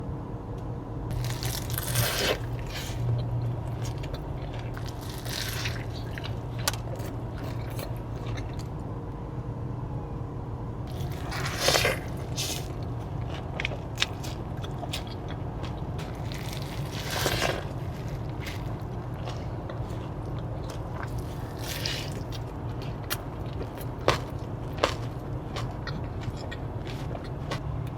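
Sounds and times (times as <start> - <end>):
person chewing crunchy burger: 1.1 - 8.9, 10.8 - 27.9.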